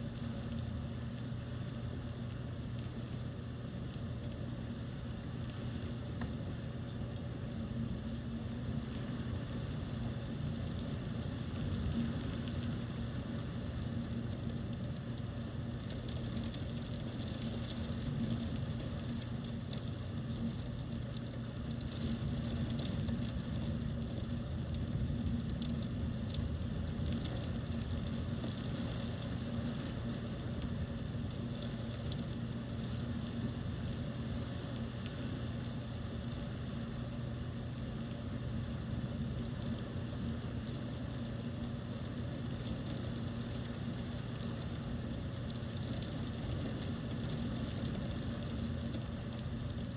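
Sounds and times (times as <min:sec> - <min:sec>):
constant low hum: 0:00.0 - 0:49.9.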